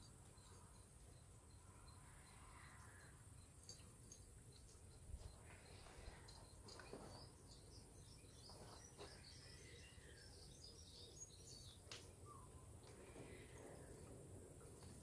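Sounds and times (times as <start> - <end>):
faint bird chirps: 0.0 - 14.2.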